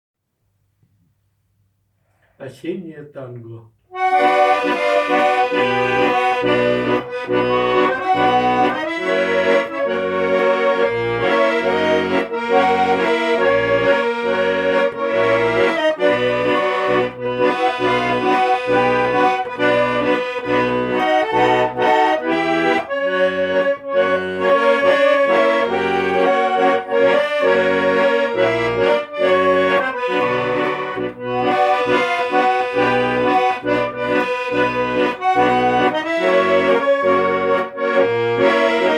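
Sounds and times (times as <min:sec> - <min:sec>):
accordion playing a tango: 0:03.9 - 0:38.9.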